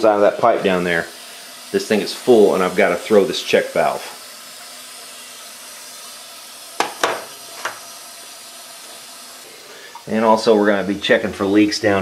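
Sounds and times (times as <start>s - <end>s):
water hissing through pipe: 0.0s - 12.0s.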